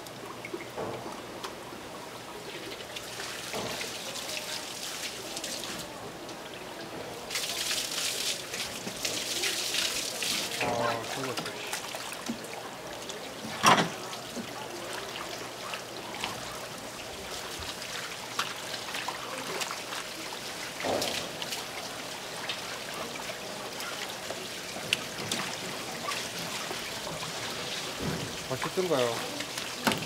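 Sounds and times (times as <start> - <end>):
water trickling: 0.0 - 30.0.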